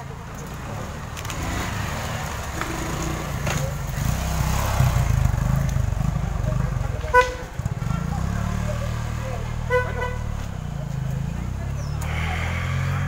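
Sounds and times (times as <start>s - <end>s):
motorcycle engine approaching: 0.0s - 13.0s.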